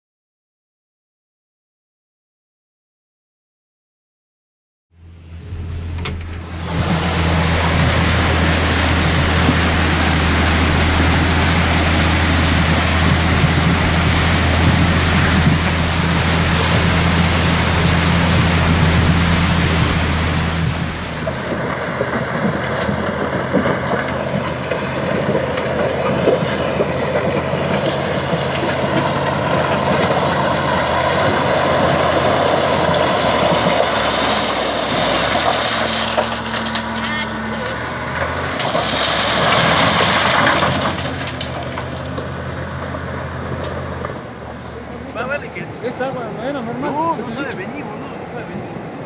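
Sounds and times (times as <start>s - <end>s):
diesel engine running: 5.0s - 49.0s
rushing floodwater: 6.5s - 49.0s.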